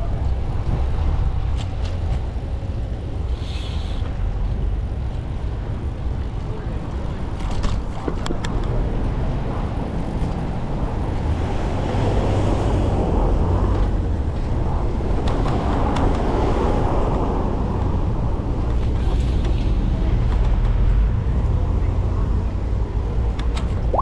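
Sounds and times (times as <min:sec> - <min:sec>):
city traffic noise: 0:00.0 - 0:24.0.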